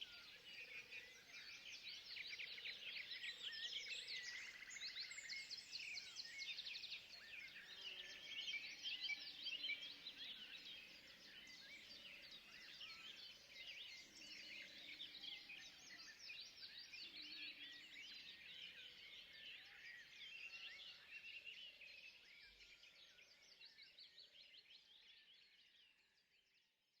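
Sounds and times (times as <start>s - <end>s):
small birds chirping and twittering: 0.0s - 27.0s.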